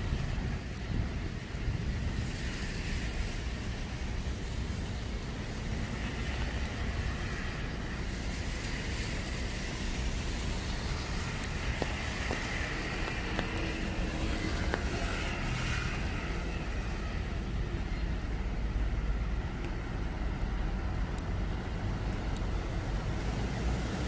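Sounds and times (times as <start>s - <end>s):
low traffic rumble: 0.0s - 24.0s
tyres hissing on wet road: 0.0s - 24.0s.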